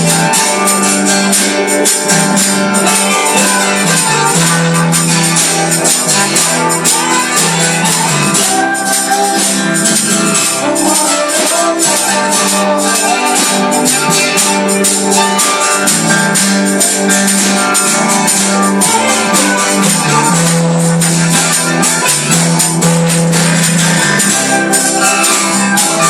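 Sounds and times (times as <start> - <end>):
bass line: 0.0 - 12.9, 13.6 - 26.0
live gospel band music: 0.0 - 26.0
tambourine shaking: 0.0 - 26.0.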